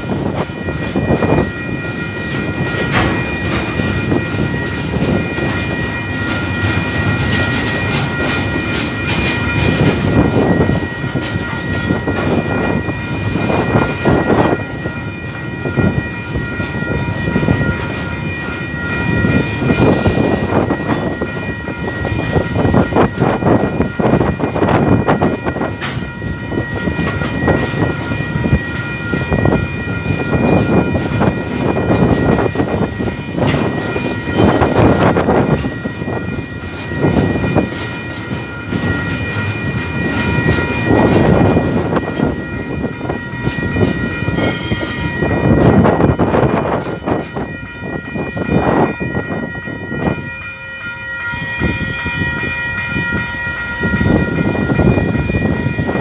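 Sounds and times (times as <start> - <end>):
crossing warning bells ringing: 0.0 - 56.0
freight train wheels rumbling: 0.0 - 56.0.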